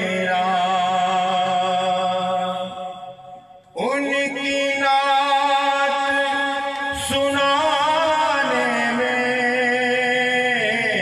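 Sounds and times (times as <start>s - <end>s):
man singing into microphone: 0.0s - 11.0s.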